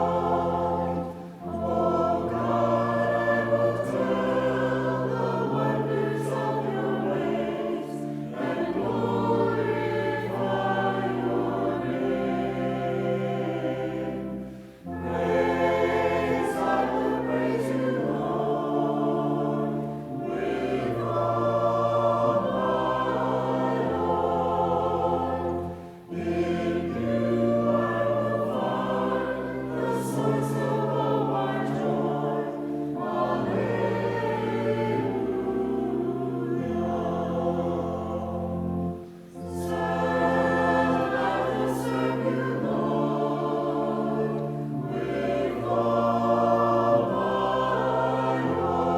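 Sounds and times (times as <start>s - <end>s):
congregation singing a hymn: 0.0s - 48.9s.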